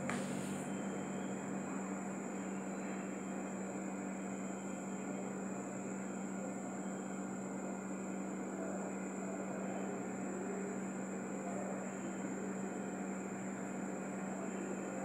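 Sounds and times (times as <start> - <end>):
faint high-pitched whine: 0.0 - 15.0
low machine hum: 0.0 - 15.0.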